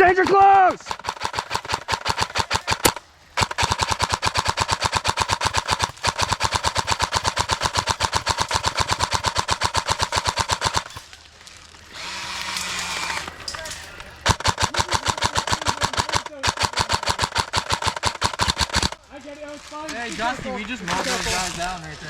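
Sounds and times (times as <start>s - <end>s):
airsoft rifle firing full auto: 0.0s - 11.2s, 11.9s - 19.0s.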